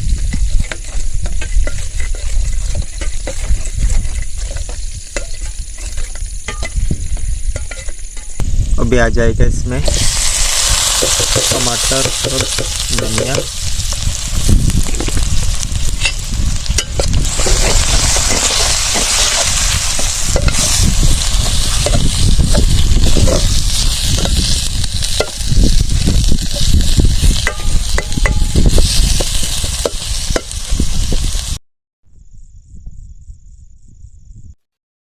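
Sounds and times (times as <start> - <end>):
spoon scraping and knocking pan: 0.0 - 8.4, 9.8 - 30.8
vegetables sizzling in hot oil: 0.0 - 31.6.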